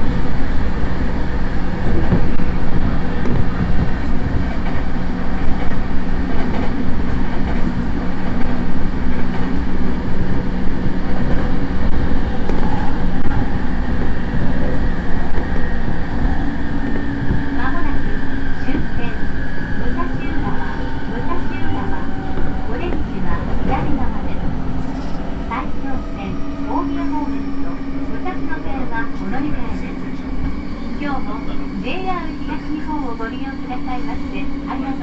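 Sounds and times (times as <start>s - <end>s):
train motor humming growl: 0.0s - 35.0s.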